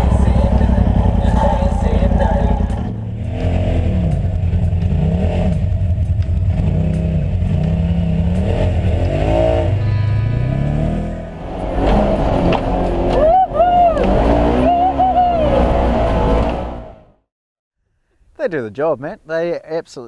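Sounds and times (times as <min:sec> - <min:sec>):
utility vehicle engine revving: 0:00.0 - 0:17.2.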